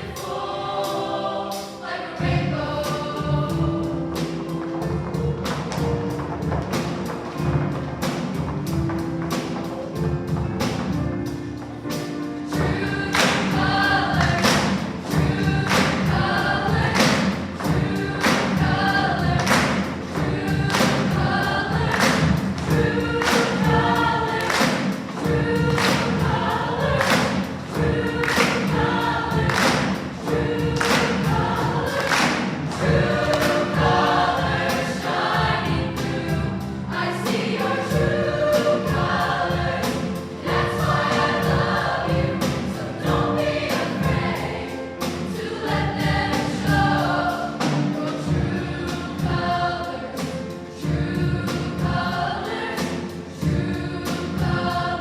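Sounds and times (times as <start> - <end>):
choir singing in harmony: 0.0 - 55.0
steady accompanying beat: 0.0 - 55.0.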